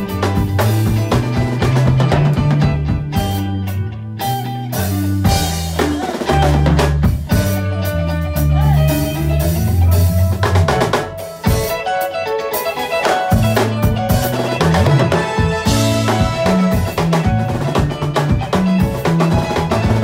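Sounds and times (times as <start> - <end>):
drum kit: 0.0 - 20.0
electric bass: 0.0 - 20.0
electric guitar: 0.0 - 20.0
live band playing: 0.0 - 20.0.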